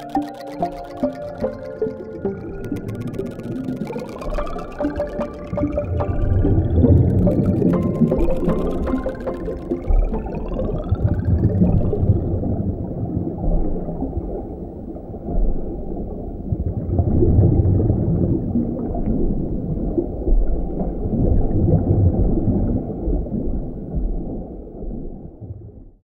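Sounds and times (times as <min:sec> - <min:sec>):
low muffled rumbling and gurgling: 0:02.2 - 0:26.0.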